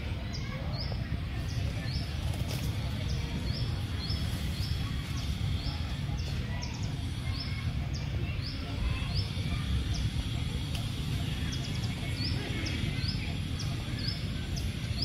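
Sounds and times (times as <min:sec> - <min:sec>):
bird chirping: 0:02.9 - 0:15.0.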